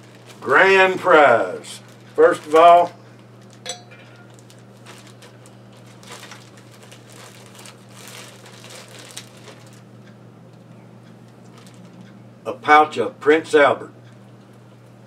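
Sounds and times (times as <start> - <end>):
rustling and crinkling of items: 0.0 - 12.2
low electrical hum: 0.0 - 15.0.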